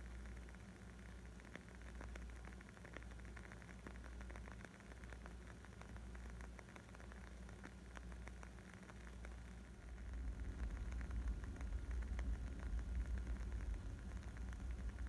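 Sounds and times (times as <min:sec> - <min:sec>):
wood fire crackling: 0:00.4 - 0:15.0.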